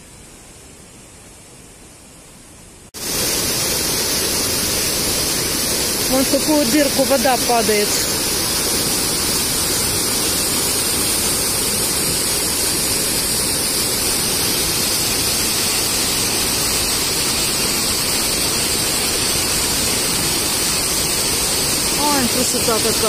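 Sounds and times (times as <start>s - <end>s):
water rushing over stone ledges: 3.0s - 23.0s.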